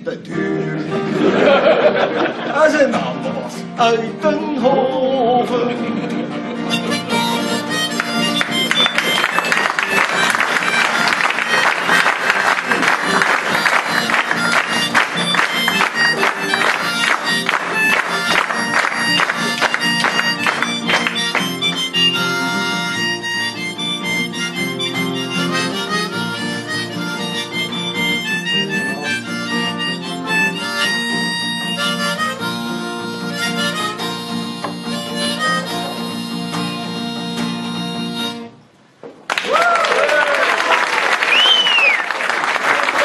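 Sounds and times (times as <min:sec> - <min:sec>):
strummed acoustic guitar: 0:00.1 - 0:38.6
harmonica notes: 0:03.1 - 0:38.8.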